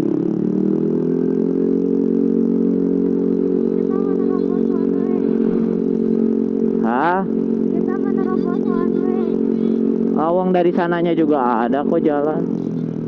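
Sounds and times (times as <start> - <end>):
scooter engine with leaking exhaust: 0.0 - 13.0.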